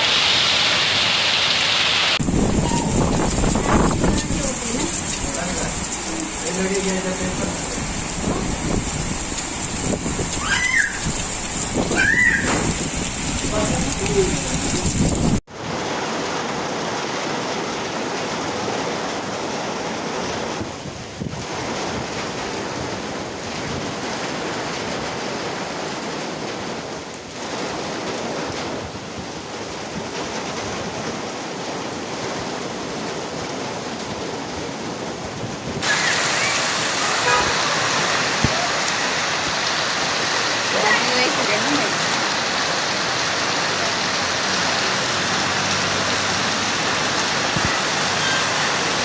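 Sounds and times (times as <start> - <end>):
heavy rain: 0.0 - 49.0
rushing water: 0.0 - 49.0.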